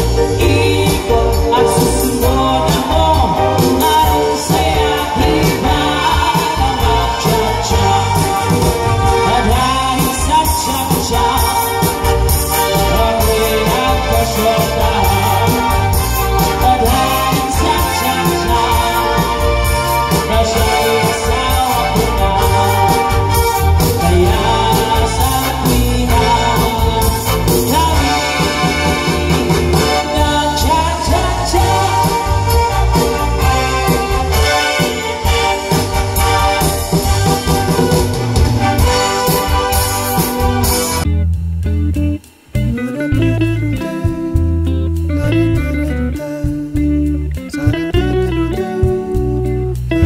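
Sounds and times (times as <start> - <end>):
person singing: 0.0 - 38.2, 43.5 - 49.5
live band playing: 0.0 - 50.0.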